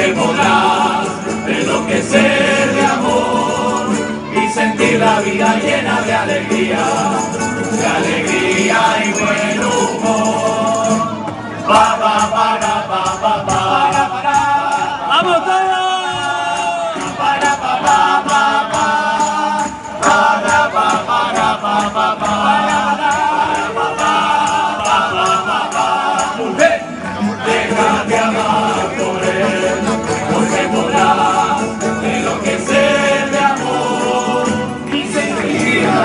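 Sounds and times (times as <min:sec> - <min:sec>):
group singing together: 0:00.0 - 0:36.0
jingling tambourine: 0:00.0 - 0:36.0
strummed guitars: 0:00.0 - 0:36.0.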